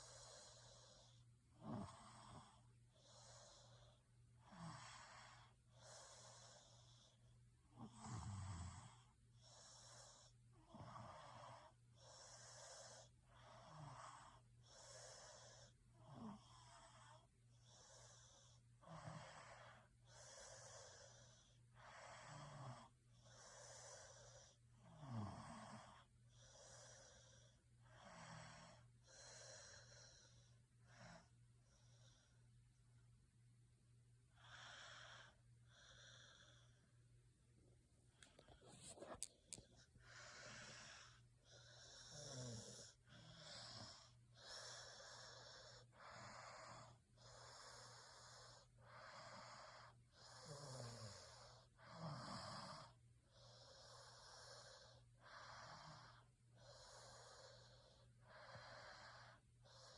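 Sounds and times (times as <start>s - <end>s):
person snoring faintly: 0.0s - 32.4s, 38.1s - 59.9s.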